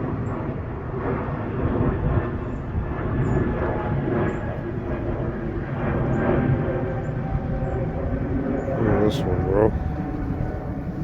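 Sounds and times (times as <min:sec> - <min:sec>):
jet airliner flying over: 0:00.0 - 0:11.0.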